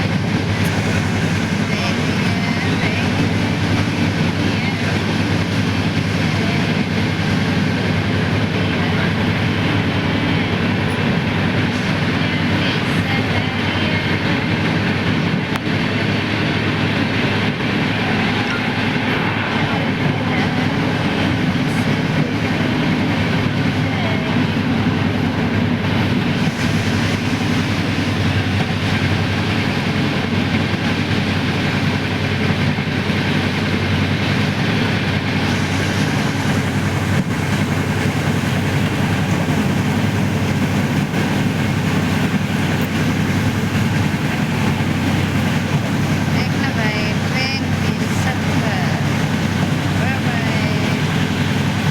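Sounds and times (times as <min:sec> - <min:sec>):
train carriage rolling on rails: 0:00.0 - 0:51.9.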